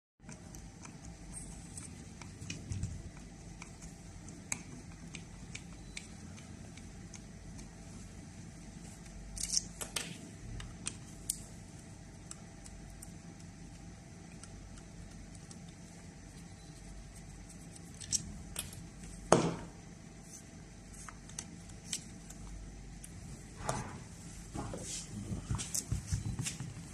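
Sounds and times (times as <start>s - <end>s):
steady low hum: 0.2s - 26.9s.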